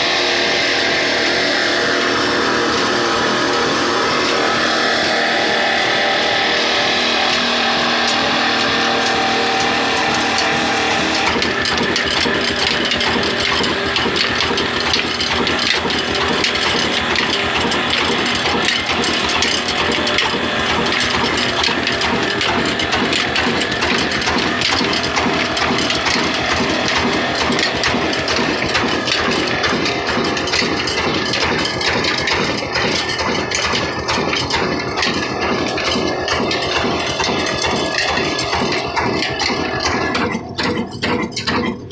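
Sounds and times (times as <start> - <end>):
diesel engine clattering: 0.0 - 41.9.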